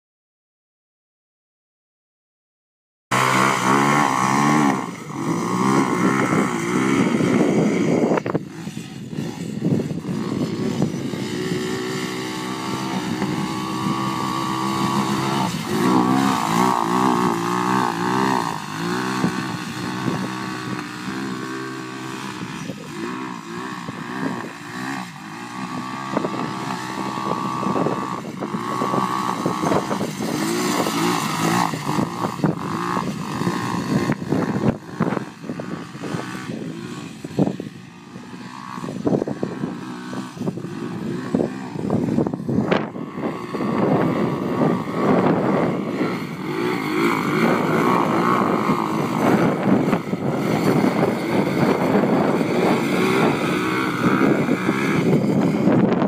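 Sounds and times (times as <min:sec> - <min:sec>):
small atv engine revving: 0:03.1 - 0:56.0.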